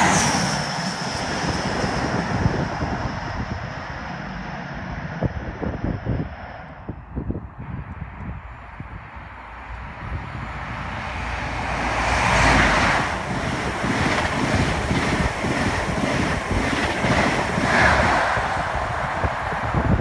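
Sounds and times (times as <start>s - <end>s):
express train rushing past: 0.0s - 7.8s, 8.4s - 20.0s.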